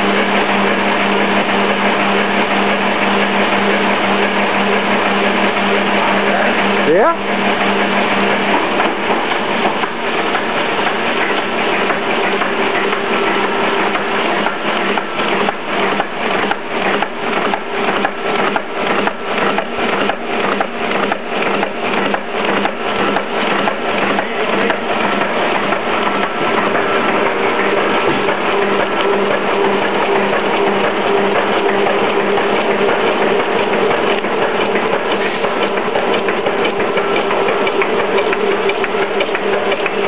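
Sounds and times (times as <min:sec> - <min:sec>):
printing press machine hum: 0:00.0 - 0:40.0
rhythmic clatter of sheets feeding: 0:00.0 - 0:40.0.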